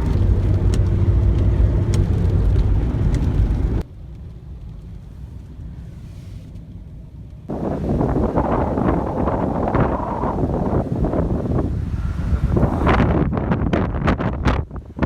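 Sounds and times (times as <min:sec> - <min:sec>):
car rumbling on the move: 0:00.0 - 0:15.0.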